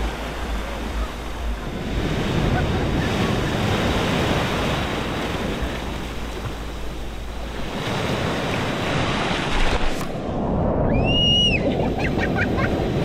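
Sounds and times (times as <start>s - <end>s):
sea waves breaking in surf: 0.0s - 13.0s
wind buffeting microphone: 0.0s - 13.0s.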